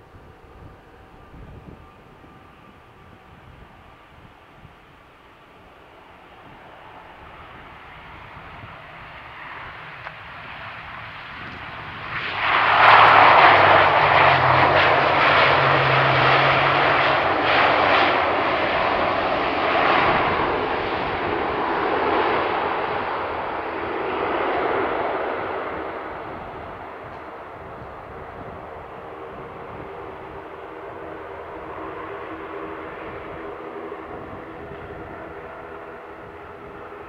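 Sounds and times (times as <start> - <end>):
turboprop engines droning: 0.0 - 37.0.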